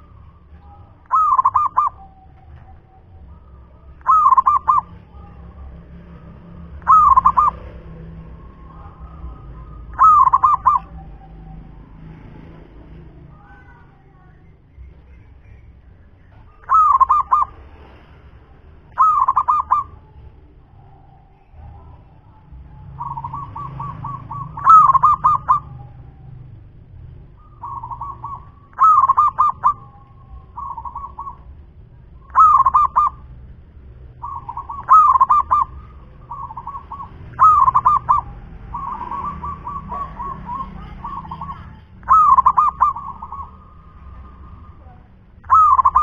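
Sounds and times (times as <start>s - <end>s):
dove cooing: 0.0s - 13.9s, 16.3s - 17.6s, 18.9s - 33.5s, 34.1s - 46.0s.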